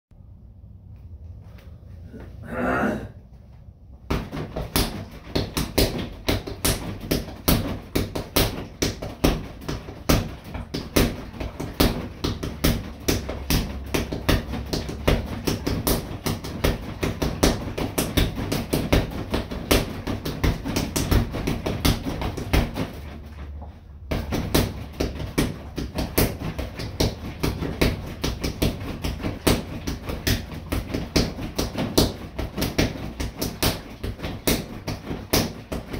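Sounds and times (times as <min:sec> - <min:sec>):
punches on punching dummy: 0:04.1 - 0:23.2, 0:24.1 - 0:35.9.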